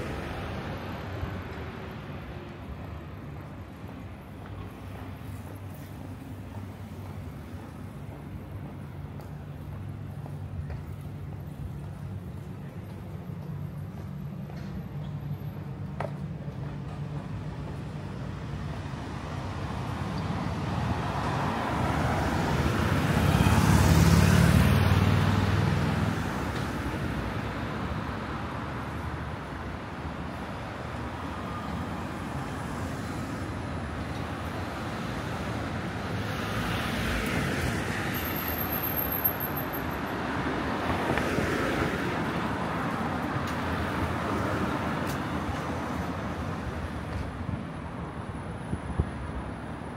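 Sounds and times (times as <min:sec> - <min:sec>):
road traffic: 0:00.0 - 0:49.9.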